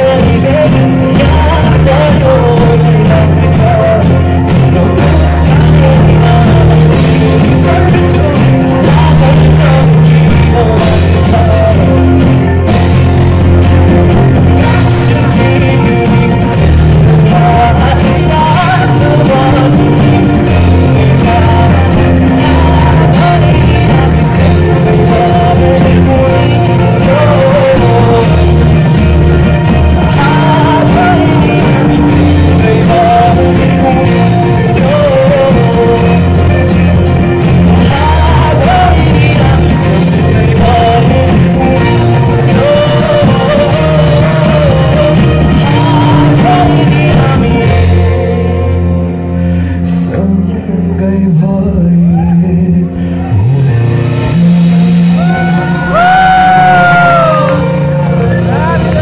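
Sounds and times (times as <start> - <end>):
live rock band playing: 0.0 - 59.0
man singing lead: 0.0 - 59.0.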